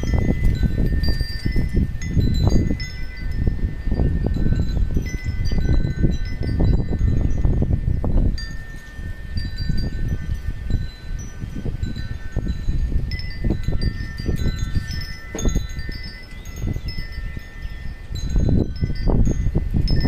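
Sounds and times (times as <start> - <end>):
gusty wind rumble: 0.0 - 20.0
metal wind chimes ringing: 0.0 - 20.0.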